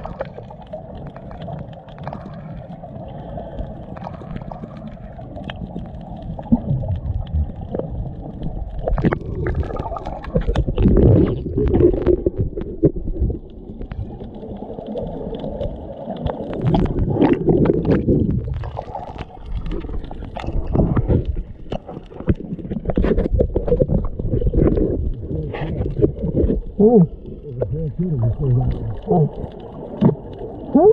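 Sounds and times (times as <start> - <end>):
muffled underwater water sound: 0.0 - 30.9.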